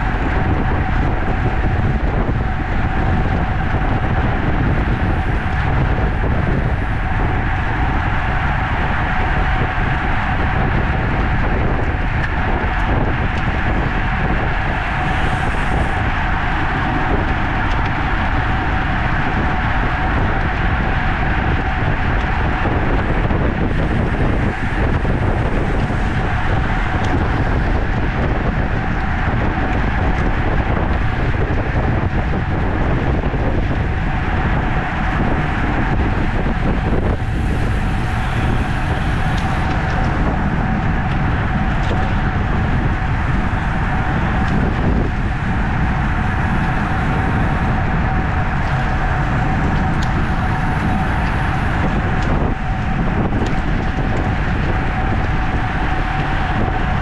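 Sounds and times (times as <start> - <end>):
bicycle road noise: 0.0 - 57.0
thin steady hum: 0.0 - 57.0
wind rush: 0.0 - 57.0.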